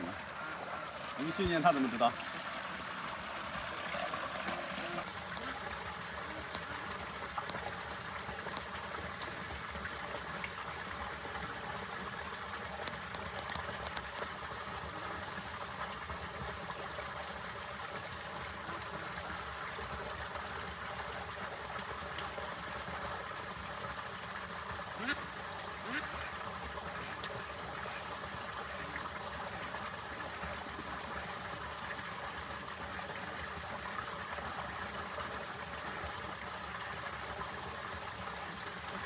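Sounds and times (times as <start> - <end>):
running water: 0.0 - 39.0.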